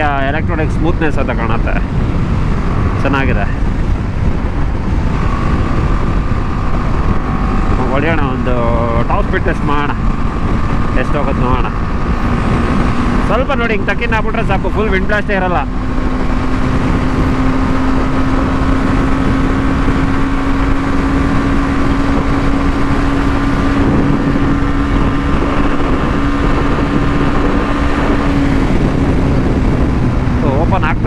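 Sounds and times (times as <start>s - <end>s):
motorcycle engine droning: 0.0s - 31.0s
wind rush: 0.0s - 31.0s.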